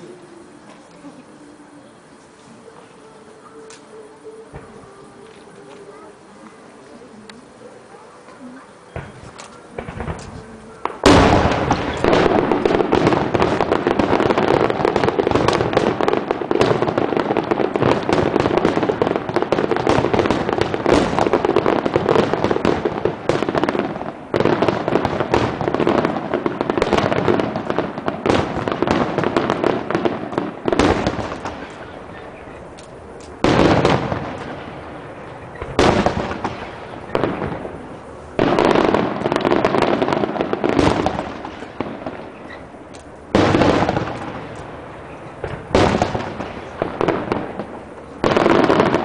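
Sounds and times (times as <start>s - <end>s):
fireworks bangs and crackling: 0.0s - 49.0s.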